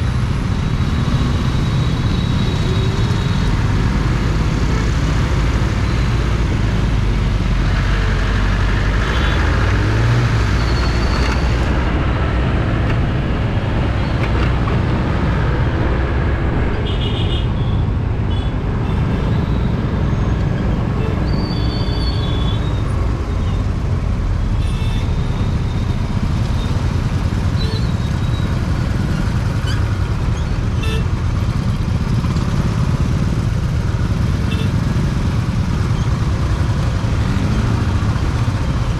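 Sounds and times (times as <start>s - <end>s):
engine and road noise: 0.0s - 38.9s.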